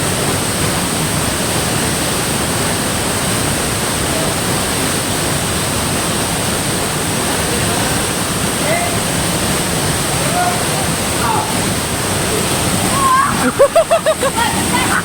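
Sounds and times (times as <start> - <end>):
waterfall pouring: 0.0 - 15.0.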